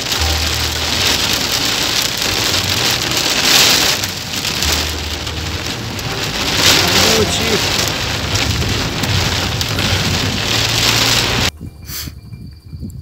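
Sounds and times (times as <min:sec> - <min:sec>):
heavy rain drumming on windshield: 0:00.0 - 0:11.5.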